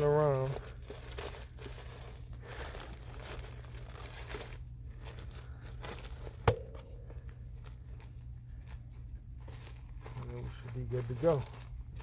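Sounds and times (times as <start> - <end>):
plastic duct jacket crinkling: 0.0 - 12.0.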